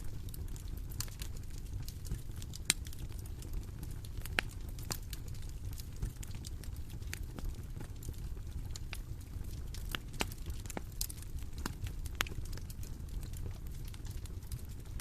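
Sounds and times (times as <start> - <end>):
low rumble of flames: 0.0 - 15.0.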